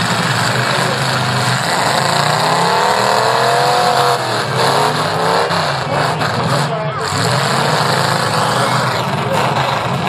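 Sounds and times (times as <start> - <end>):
car engines running hard: 0.0 - 10.0
engine revving: 0.0 - 10.0.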